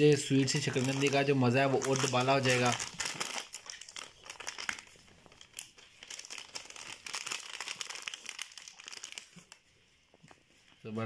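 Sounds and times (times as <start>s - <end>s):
plastic packet crinkling: 0.0s - 9.6s.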